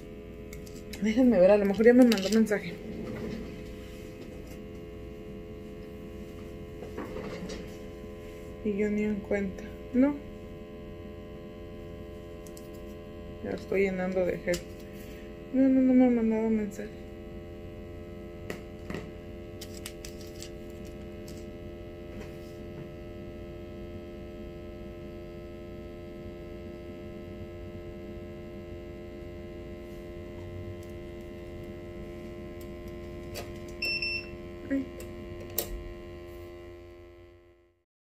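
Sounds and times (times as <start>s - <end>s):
electrical hum: 0.0s - 37.8s.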